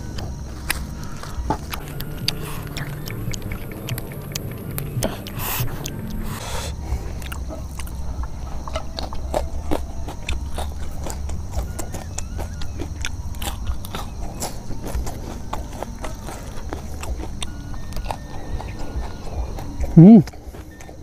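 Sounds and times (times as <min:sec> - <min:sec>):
chewing crunchy vegetables: 0:00.0 - 0:21.0.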